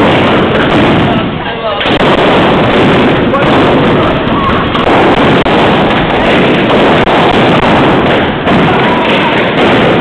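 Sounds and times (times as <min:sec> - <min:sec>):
balloons popping: 0:00.0 - 0:10.0
crowd noise: 0:00.0 - 0:10.0.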